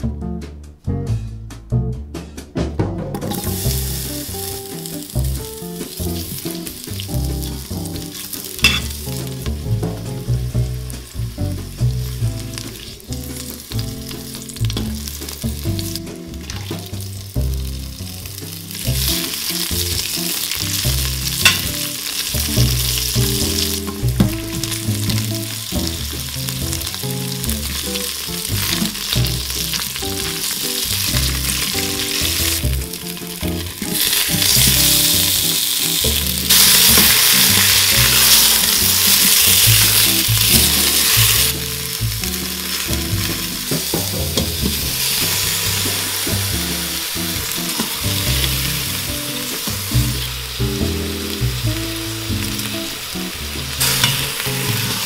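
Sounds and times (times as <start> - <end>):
hot oil sizzling in a pot: 3.2 - 55.0.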